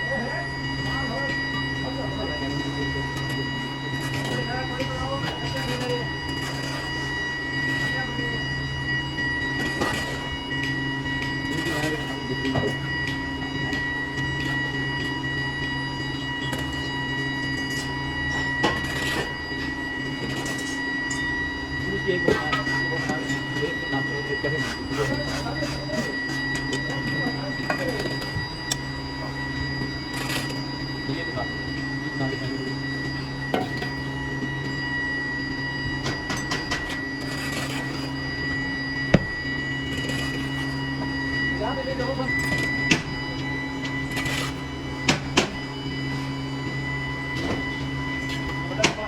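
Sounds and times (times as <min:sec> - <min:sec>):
machinery drone with high whine: 0:00.0 - 0:49.0.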